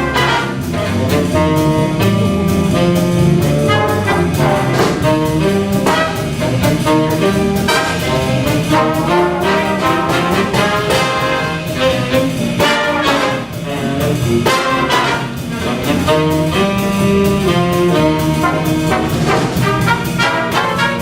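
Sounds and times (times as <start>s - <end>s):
big band playing jazz: 0.0s - 21.0s
brass section chords: 0.0s - 21.0s.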